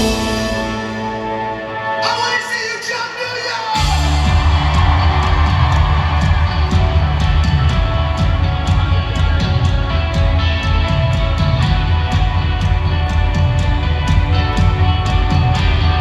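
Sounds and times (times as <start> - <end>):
drums and bass: 0.0 - 1.8, 3.8 - 16.0
guitars and keyboards: 0.0 - 16.0.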